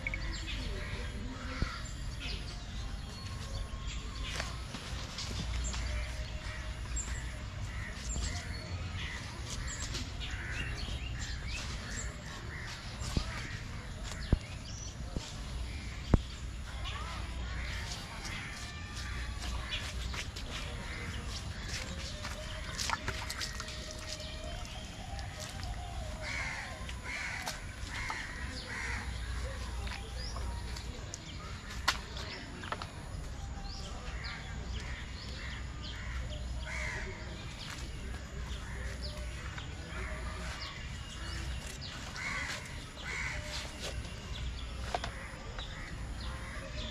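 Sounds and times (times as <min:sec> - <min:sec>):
birds cawing and chirping: 0:00.0 - 0:46.9.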